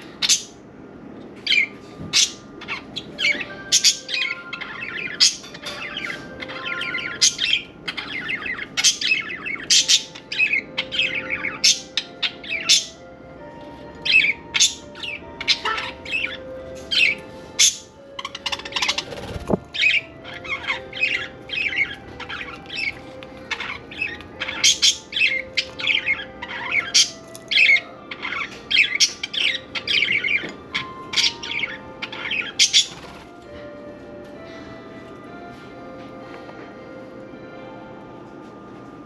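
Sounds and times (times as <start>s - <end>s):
budgerigars chirping: 0.1s - 0.6s, 1.4s - 13.0s, 14.0s - 33.2s.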